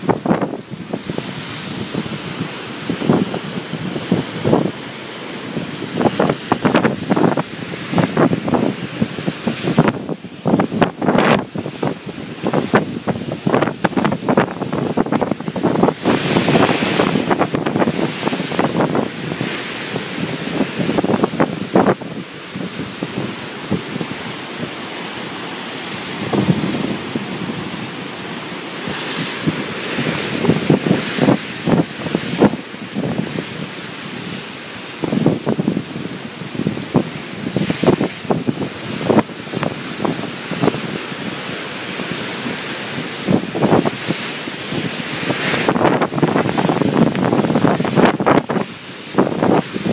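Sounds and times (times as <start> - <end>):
ocean surf on shore: 0.0 - 49.9
wind buffeting microphone: 0.0 - 49.9.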